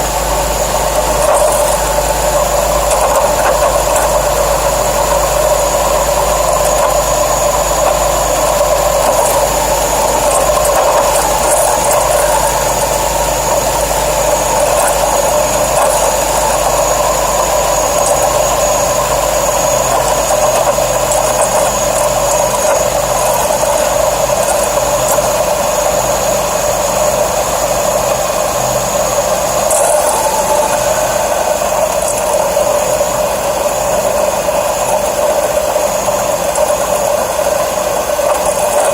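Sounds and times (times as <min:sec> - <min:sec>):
high belt whine: 0:00.0 - 0:38.9.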